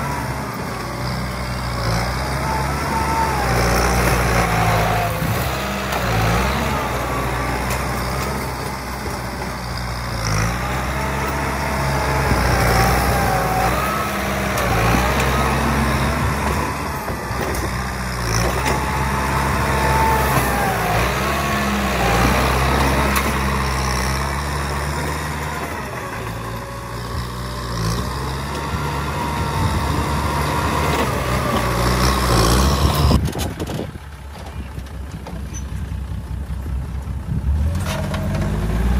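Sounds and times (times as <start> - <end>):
dozer blade pushing soil and rocks: 0.0 - 36.0, 37.0 - 38.9
tractor diesel engine under load: 0.0 - 38.9.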